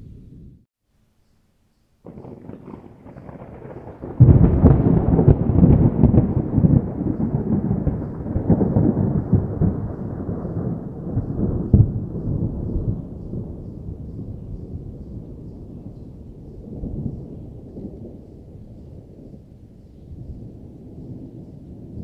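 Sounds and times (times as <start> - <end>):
loud thunder peal: 2.0 - 22.0
thunder rumbling: 2.0 - 22.0.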